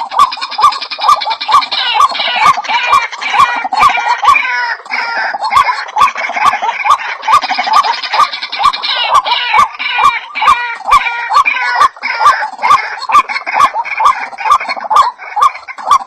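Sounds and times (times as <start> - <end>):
bird croaking call: 0.0 - 16.0
higher bird calls: 0.0 - 16.0.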